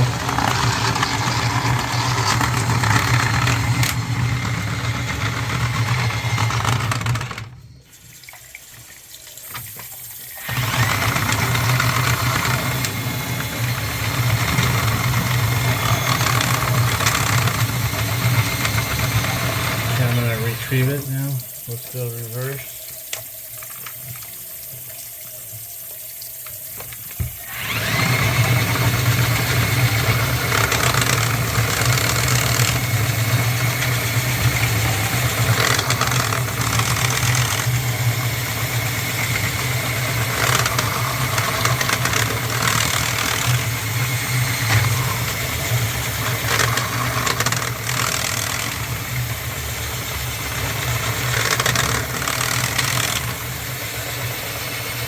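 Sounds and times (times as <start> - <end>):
drain snake running: 0.0 - 7.4, 10.4 - 22.9, 27.4 - 55.0.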